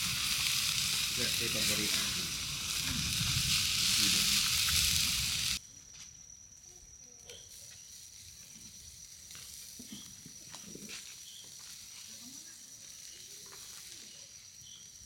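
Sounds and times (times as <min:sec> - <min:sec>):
meat sizzling on a grill: 0:00.0 - 0:05.6, 0:07.2 - 0:15.0.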